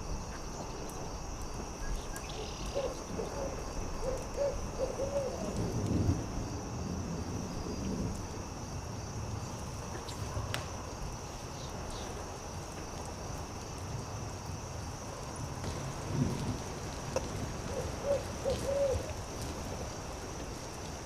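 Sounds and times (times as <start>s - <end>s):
crickets chirring: 0.0s - 21.0s
campfire crackling and popping: 0.1s - 21.0s.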